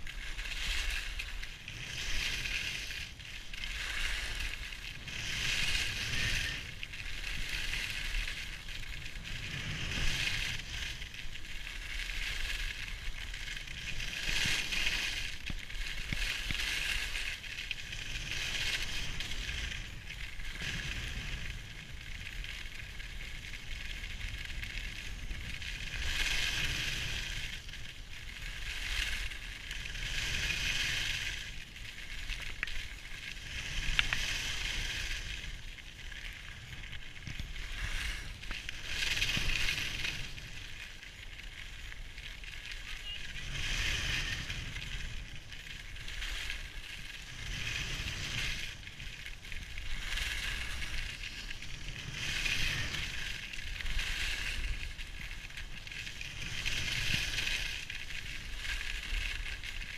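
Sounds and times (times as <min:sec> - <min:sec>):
skis scraping on snow: 0:00.0 - 0:59.9.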